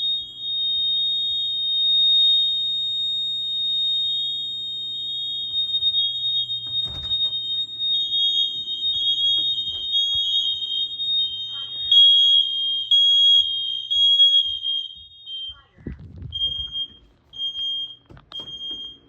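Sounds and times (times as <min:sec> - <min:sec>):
fire alarm high-pitched tone: 0:00.0 - 0:19.0
lower alarm tone beeping: 0:00.0 - 0:19.0.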